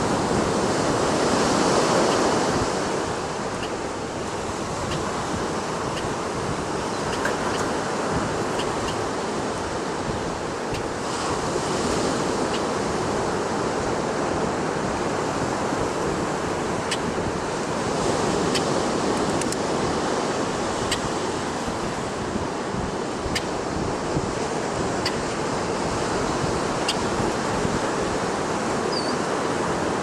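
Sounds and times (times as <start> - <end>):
ocean surf washing: 0.0 - 30.0
wind on microphone: 0.0 - 30.0.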